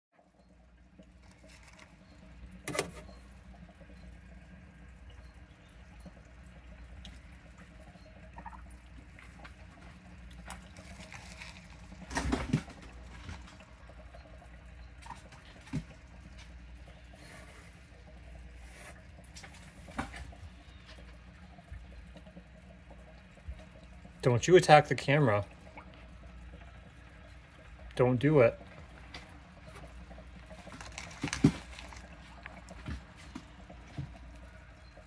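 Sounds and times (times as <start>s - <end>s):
faint running water: 0.2s - 35.0s.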